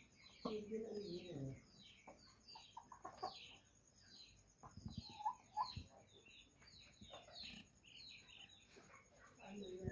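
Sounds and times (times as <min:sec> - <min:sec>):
faint bird chirping: 0:00.0 - 0:09.9.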